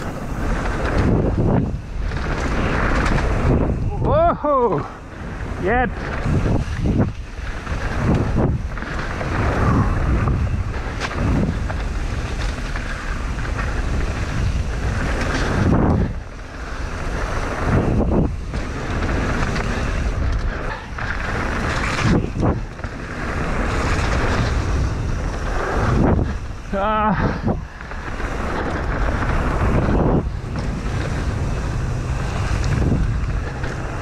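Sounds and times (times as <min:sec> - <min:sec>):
tyres rumbling on dirt trail: 0:00.0 - 0:34.0
wind buffeting the microphone: 0:00.0 - 0:34.0.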